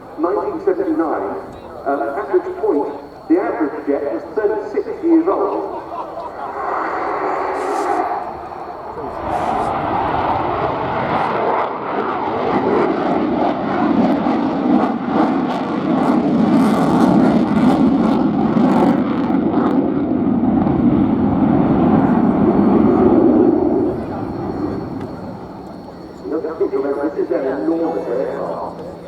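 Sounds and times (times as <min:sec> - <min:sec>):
fighter jet engines roaring: 0:00.0 - 0:29.0.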